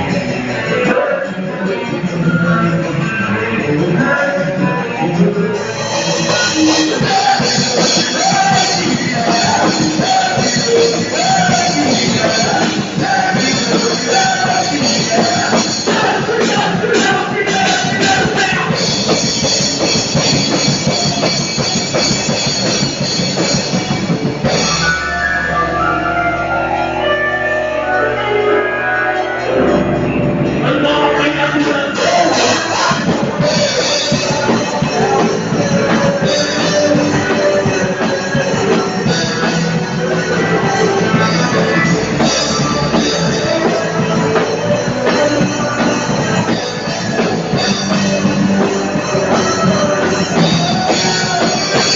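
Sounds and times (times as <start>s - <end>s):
drum kit played hard: 0.0s - 51.9s
held guitar chords: 0.0s - 51.9s
rock worship song with singing: 0.0s - 51.9s.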